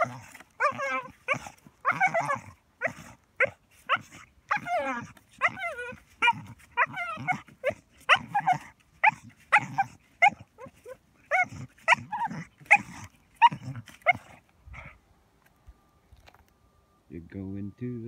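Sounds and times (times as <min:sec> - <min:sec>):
paws scraping sand: 0:00.0 - 0:14.9
dog yipping and whining: 0:00.0 - 0:15.0.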